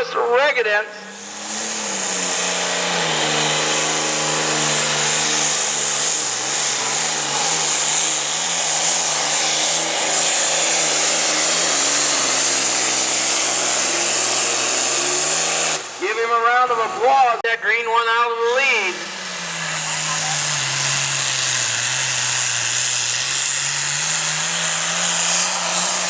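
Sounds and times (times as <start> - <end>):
tractor engine running flat out: 0.6 - 17.4, 18.2 - 26.0.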